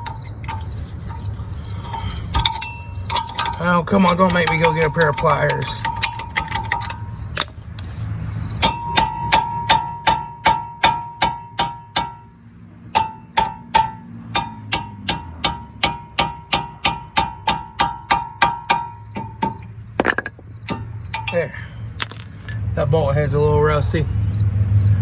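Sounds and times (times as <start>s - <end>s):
metal tapping on a bolt: 0.0s - 1.3s, 1.9s - 7.6s, 8.6s - 12.3s, 12.9s - 22.6s.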